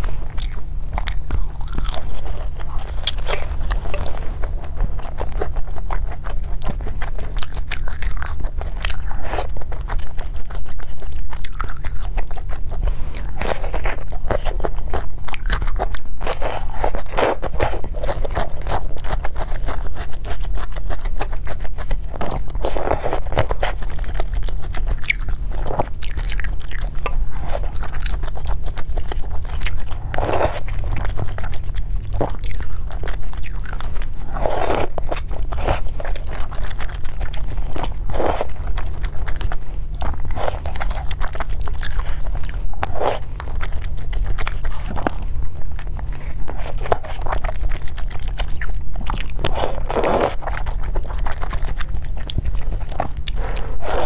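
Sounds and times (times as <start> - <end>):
biting and chewing food: 0.0 - 54.0
steady low hum: 0.0 - 54.0.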